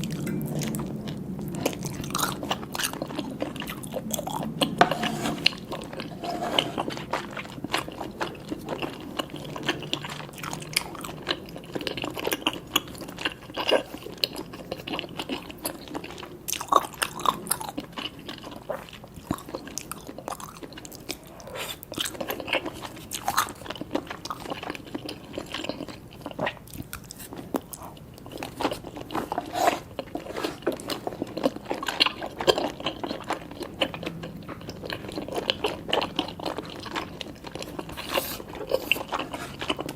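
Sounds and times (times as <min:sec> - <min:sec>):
chewing and crunching noodles: 0:00.0 - 0:39.9.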